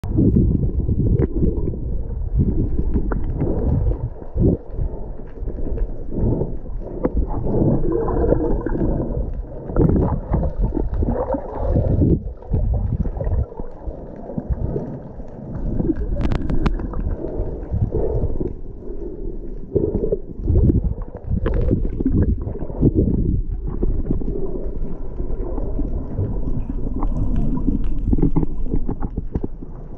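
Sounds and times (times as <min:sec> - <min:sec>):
muffled underwater sloshing: 0:00.0 - 0:29.9.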